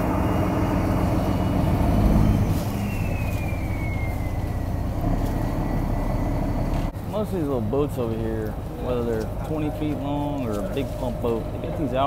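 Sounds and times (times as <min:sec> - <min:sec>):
diesel boat engine running: 0:00.0 - 0:12.0.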